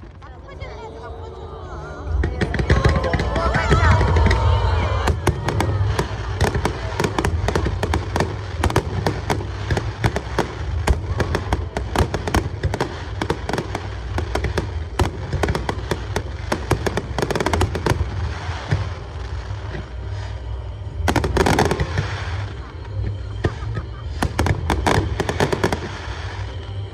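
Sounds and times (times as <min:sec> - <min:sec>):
fireworks cracking and banging: 0:02.1 - 0:26.9.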